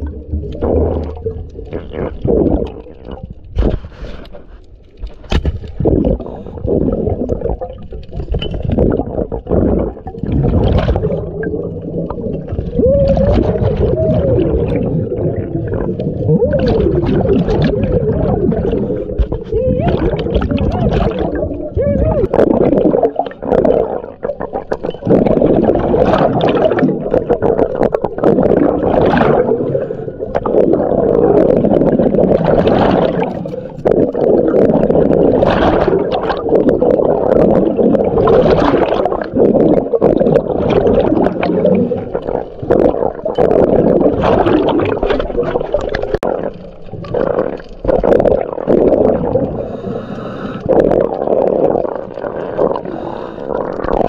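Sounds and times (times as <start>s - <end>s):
muffled underwater rushing water: 0.0s - 54.0s.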